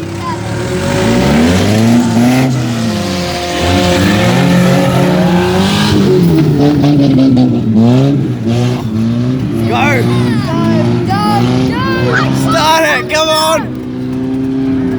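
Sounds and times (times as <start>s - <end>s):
car engines revving: 0.0s - 14.9s.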